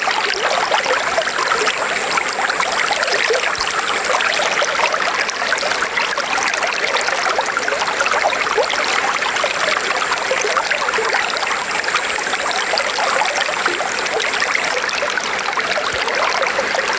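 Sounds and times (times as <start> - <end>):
river water flowing over stones: 0.0 - 16.9.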